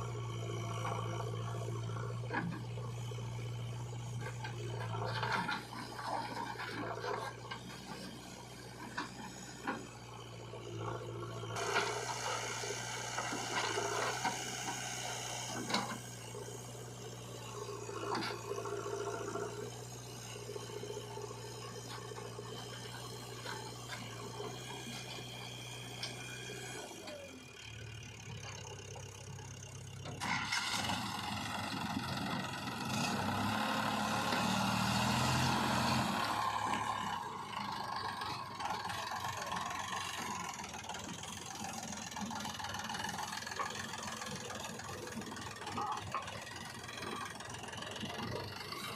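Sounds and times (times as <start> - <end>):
backhoe diesel engine running: 0.0 - 48.9.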